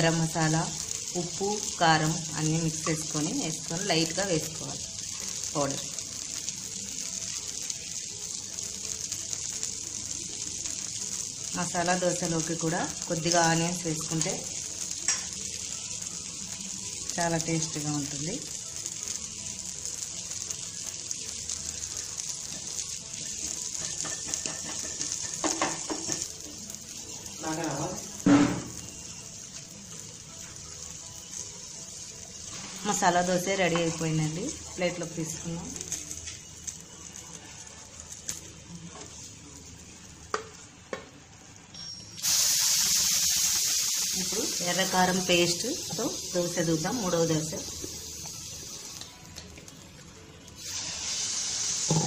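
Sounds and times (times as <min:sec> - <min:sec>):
griddle sizzling and crackling: 0:00.0 - 0:52.0.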